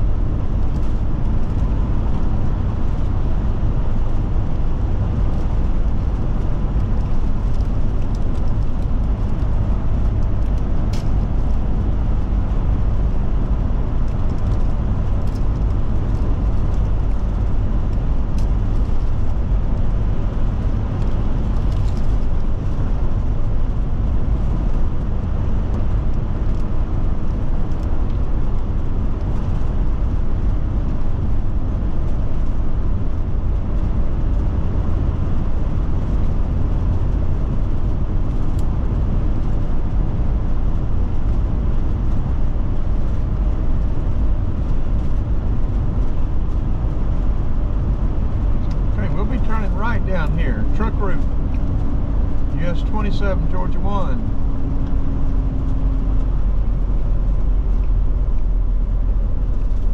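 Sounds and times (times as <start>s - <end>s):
motorhome engine and tyre rumble: 0.0s - 59.9s.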